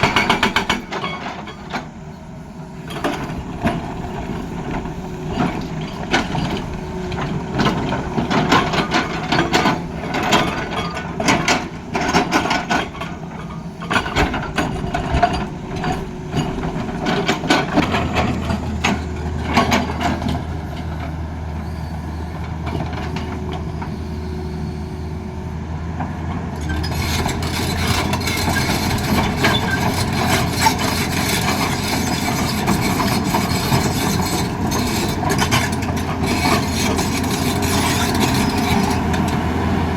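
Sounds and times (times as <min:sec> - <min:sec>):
excavator knocks and clanks: 0:00.0 - 0:24.6, 0:25.9 - 0:39.9
excavator engine drone: 0:00.0 - 0:39.9.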